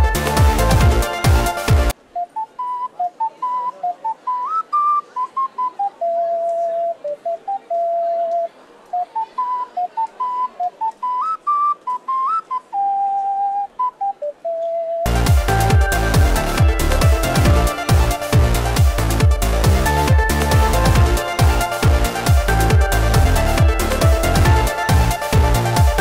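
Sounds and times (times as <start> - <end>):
ocarina melody: 0.0 - 26.0.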